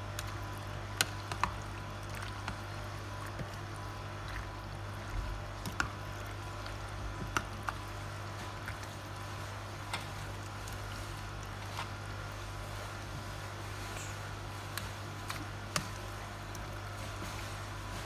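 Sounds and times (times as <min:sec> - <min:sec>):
steady low hum: 0:00.0 - 0:18.0
wet squelching of pasta: 0:00.0 - 0:18.0.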